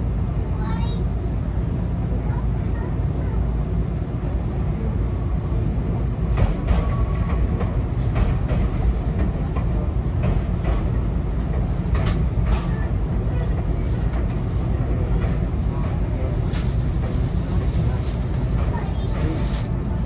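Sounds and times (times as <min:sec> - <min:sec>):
electric train passing slowly: 0:00.0 - 0:20.0.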